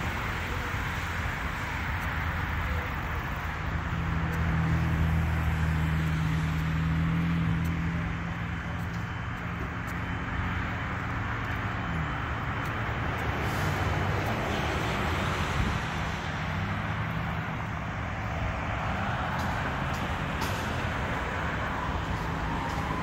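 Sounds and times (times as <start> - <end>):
traffic rushing: 0.0 - 23.0.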